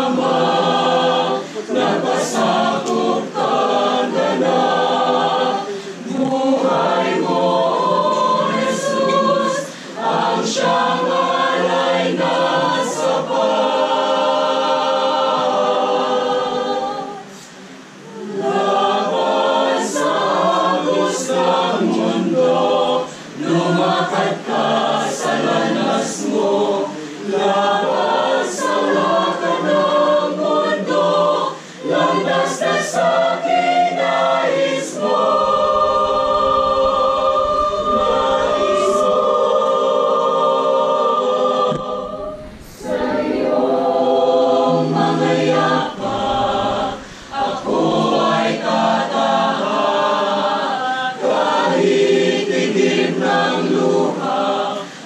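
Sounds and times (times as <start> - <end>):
church choir singing: 0.0 - 55.0.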